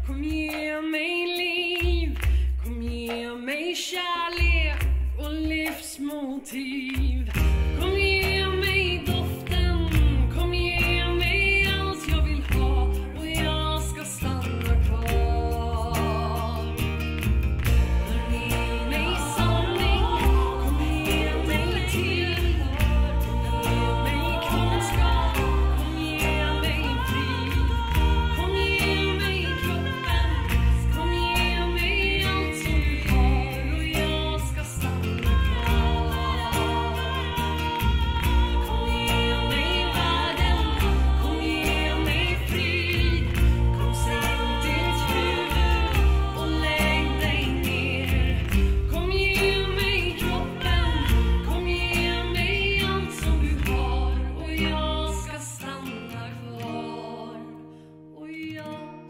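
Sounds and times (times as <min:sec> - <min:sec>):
bass: 0:00.0 - 0:03.6, 0:04.3 - 0:06.0, 0:06.9 - 0:57.5
guitar and percussion: 0:00.0 - 0:59.0
woman singing: 0:00.0 - 0:59.0.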